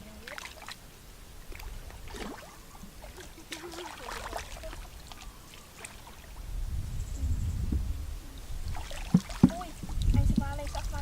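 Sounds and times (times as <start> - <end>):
water splashing and trickling: 0.0 - 6.6, 8.2 - 11.0.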